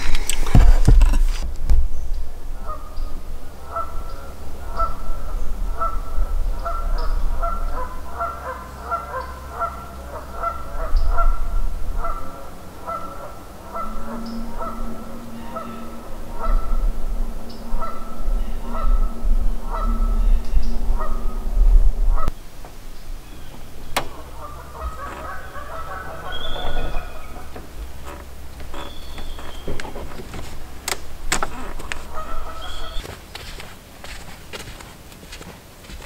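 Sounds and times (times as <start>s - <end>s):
low uneven rumble: 0.0s - 36.0s
geese honking: 2.3s - 36.0s.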